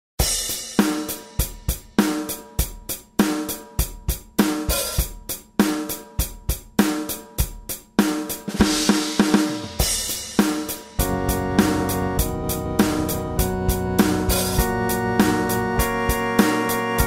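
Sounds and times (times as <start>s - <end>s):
music with steady drum beat: 0.2s - 17.0s.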